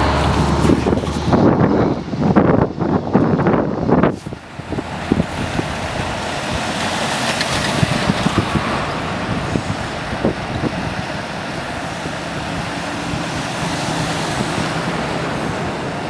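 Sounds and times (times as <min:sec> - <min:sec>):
road traffic: 0:00.0 - 0:16.0
wind: 0:00.0 - 0:16.0.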